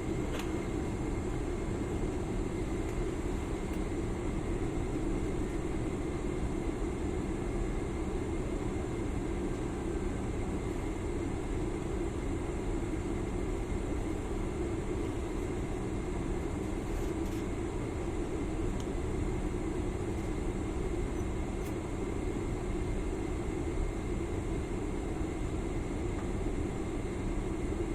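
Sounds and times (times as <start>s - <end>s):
airliner cabin hum: 0.0s - 27.9s.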